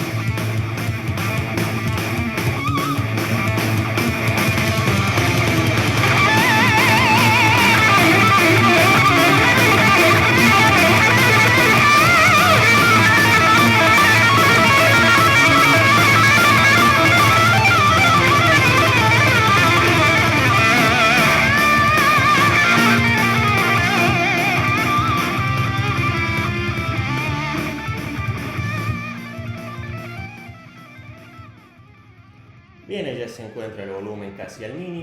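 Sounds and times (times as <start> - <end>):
rock song through speaker: 0.0 - 35.0.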